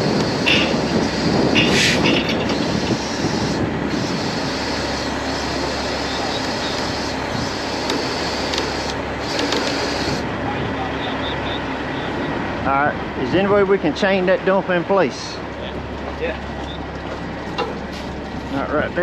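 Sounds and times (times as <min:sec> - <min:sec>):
diesel engine and hydraulics running: 0:00.0 - 0:19.0.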